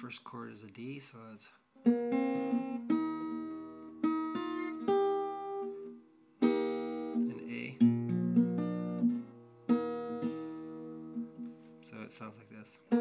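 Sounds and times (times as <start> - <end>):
fingerpicked acoustic guitar: 1.8 - 13.0.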